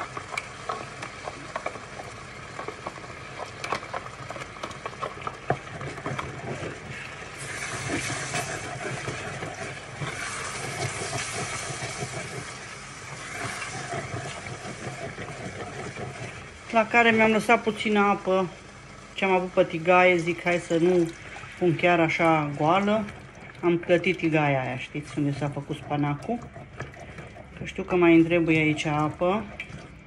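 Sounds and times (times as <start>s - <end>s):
sauce sizzling: 0.0s - 30.0s.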